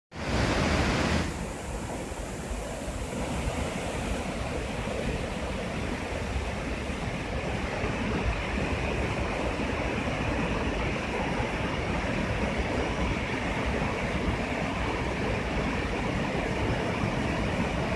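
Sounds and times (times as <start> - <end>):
water rushing over dam: 0.2 - 17.9.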